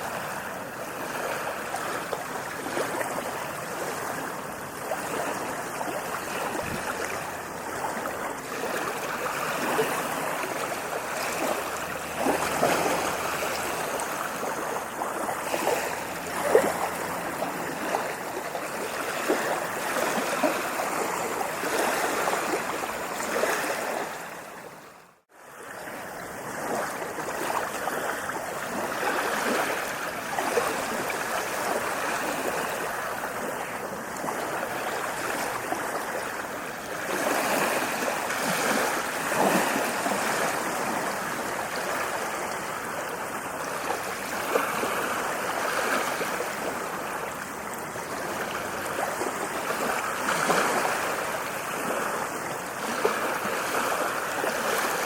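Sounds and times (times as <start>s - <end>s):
ocean waves washing on beach: 0.0s - 55.0s.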